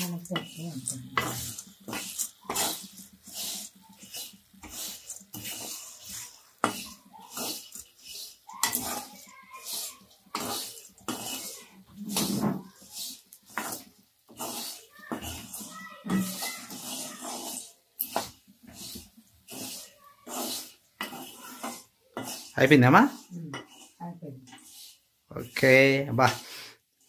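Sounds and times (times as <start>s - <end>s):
metal spatula scraping a pan: 0.0s - 27.0s.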